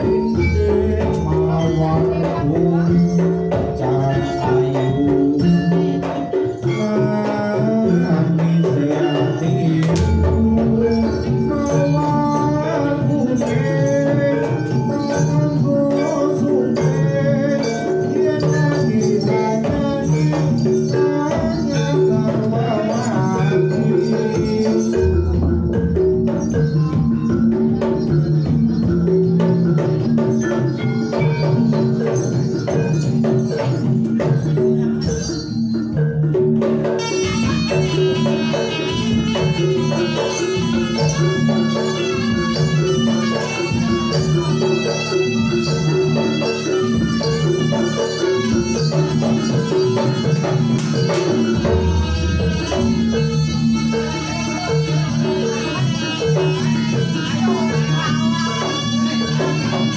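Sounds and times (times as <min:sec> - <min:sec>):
gamelan music with drums: 0:00.0 - 0:59.9.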